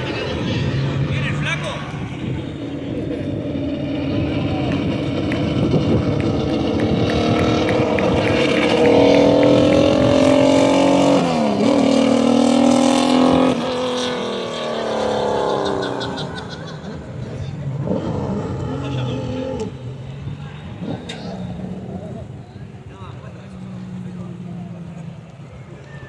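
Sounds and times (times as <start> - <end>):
race car engine accelerating past: 0.0 - 26.0.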